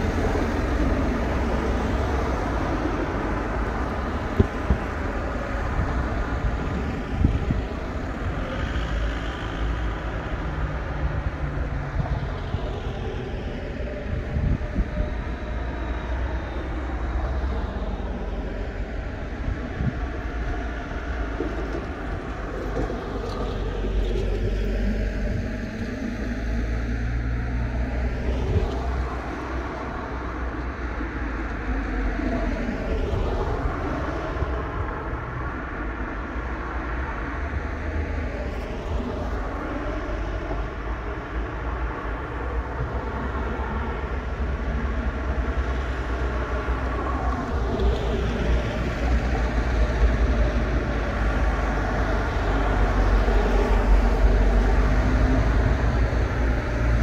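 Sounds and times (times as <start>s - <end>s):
low traffic rumble: 0.0s - 57.0s
traffic engines running: 0.0s - 57.0s
vehicles passing close by: 0.0s - 57.0s.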